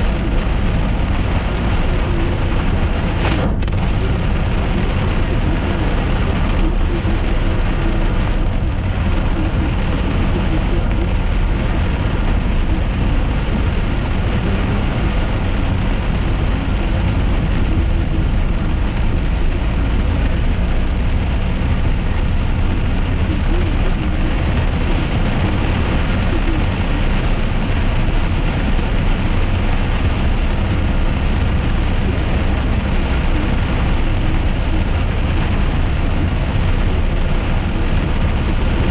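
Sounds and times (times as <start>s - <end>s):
car engine and tyres on wet road: 0.0s - 38.9s
rain on car: 0.0s - 38.9s.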